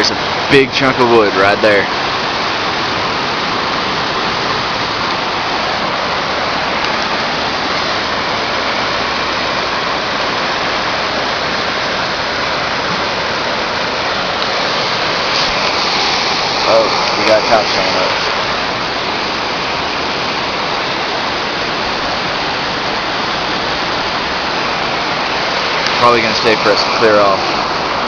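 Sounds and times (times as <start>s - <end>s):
rushing floodwater: 0.0s - 28.0s.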